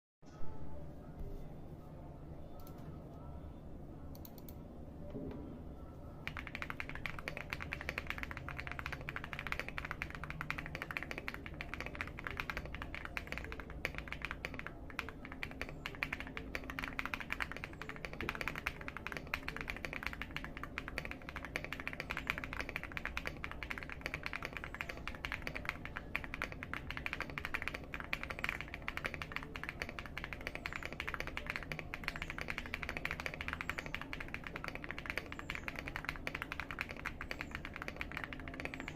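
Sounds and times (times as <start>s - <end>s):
fast mechanical keyboard typing: 6.2s - 38.9s.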